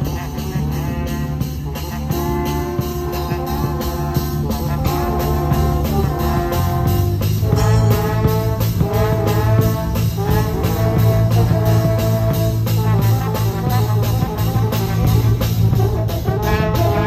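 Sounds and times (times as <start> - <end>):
brass band playing: 0.0 - 17.0
drum kit beat: 0.0 - 17.0
trombone melody: 0.0 - 17.0.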